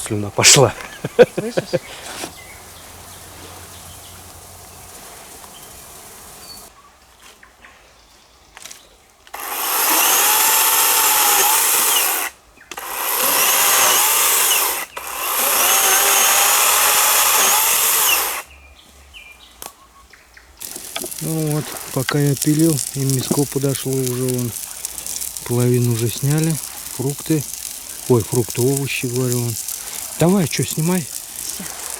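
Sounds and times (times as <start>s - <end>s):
power saw cutting wood: 0.0s - 6.7s, 9.4s - 18.5s, 20.6s - 31.9s.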